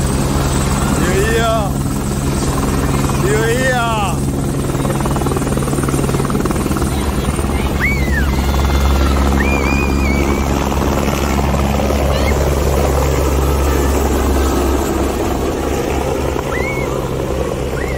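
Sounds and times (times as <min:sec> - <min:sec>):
helicopter rotor and turbine: 0:00.0 - 0:17.9.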